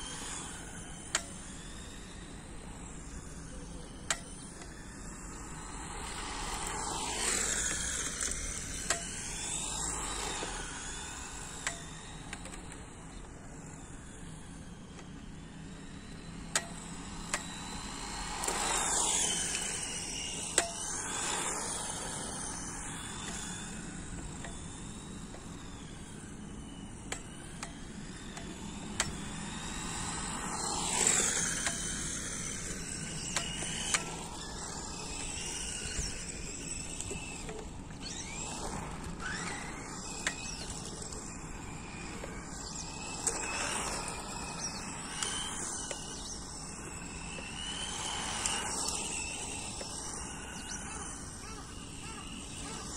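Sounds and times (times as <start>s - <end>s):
rc car motor whine: 0.0s - 52.9s.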